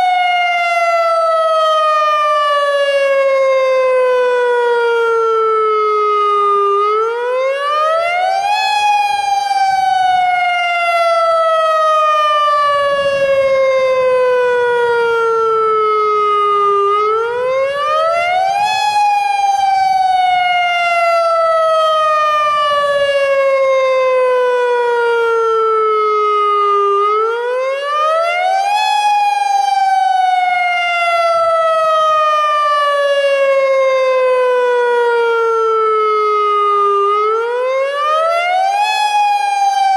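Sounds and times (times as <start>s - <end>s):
wailing electronic siren: 0.0s - 39.9s.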